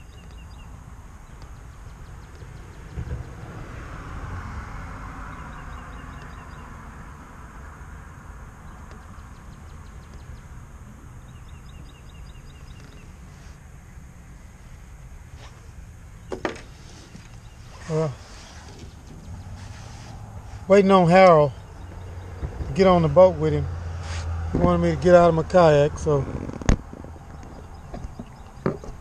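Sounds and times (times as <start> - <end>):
vehicle passing: 1.6 - 13.6, 15.2 - 28.5.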